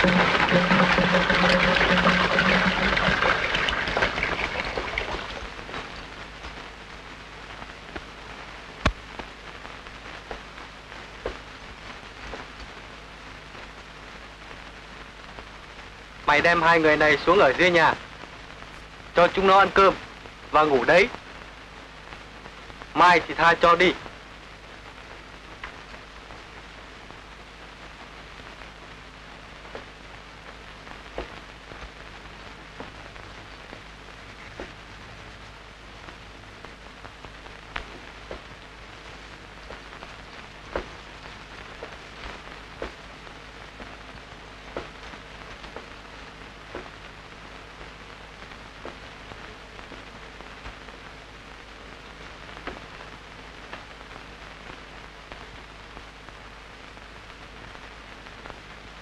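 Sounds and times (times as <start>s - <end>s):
crackles and clicks: 0.0s - 59.0s
faint low hum: 0.0s - 59.0s
film soundtrack hiss: 0.0s - 59.0s.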